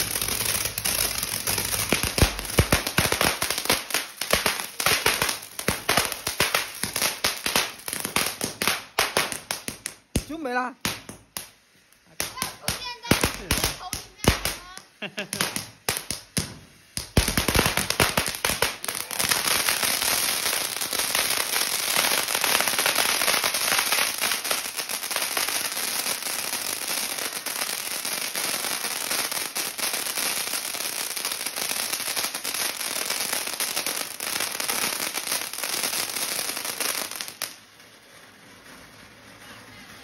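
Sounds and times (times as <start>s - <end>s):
firework bangs: 0.0s - 39.8s
firework fountain crackling: 0.0s - 40.0s.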